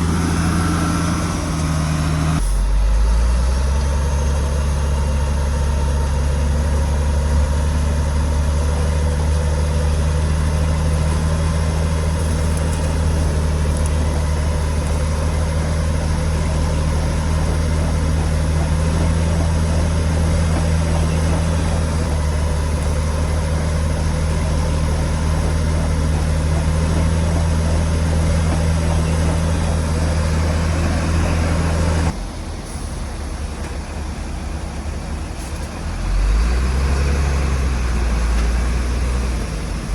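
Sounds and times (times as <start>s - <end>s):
heavy diesel engine drone: 0.0s - 39.9s.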